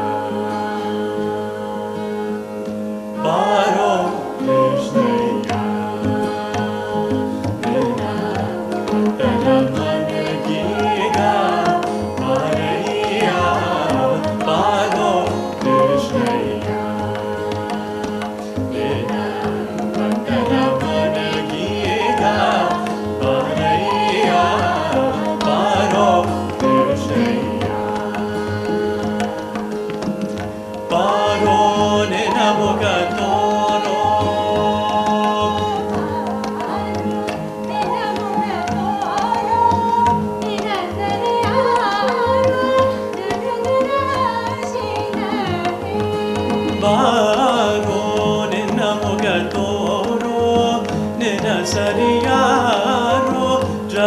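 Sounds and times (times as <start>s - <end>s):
ornamented melody: 0.0s - 54.0s
tabla: 0.0s - 54.0s.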